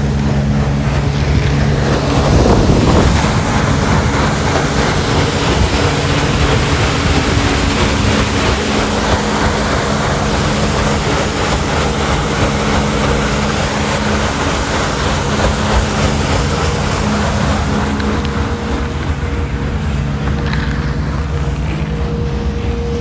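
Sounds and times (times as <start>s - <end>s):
boat engine droning: 0.0s - 23.0s
water and wind rushing past hull: 0.0s - 23.0s.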